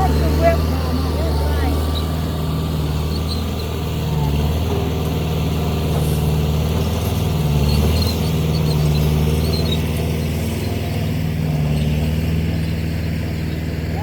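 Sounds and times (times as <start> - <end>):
heavy equipment engine droning: 0.0 - 14.0.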